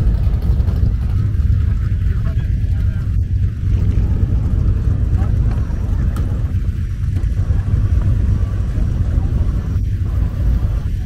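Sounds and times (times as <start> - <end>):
car engine deep rumble: 0.0 - 11.0.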